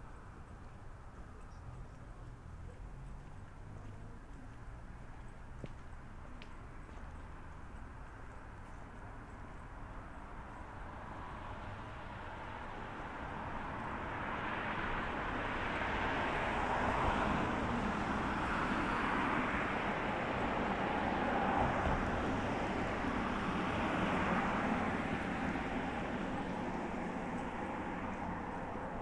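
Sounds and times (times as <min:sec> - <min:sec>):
vehicle passing on road: 0:00.0 - 0:29.0.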